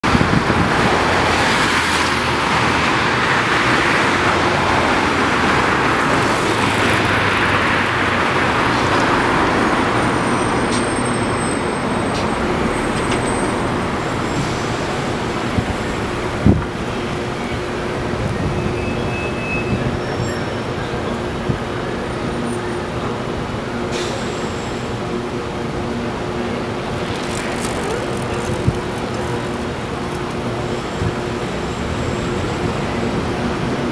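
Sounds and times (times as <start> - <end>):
passing cars and buses: 0.0 - 33.9.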